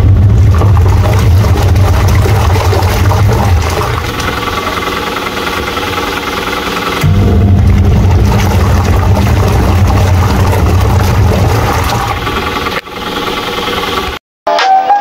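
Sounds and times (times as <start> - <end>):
washing machine motor humming: 0.0 - 14.2.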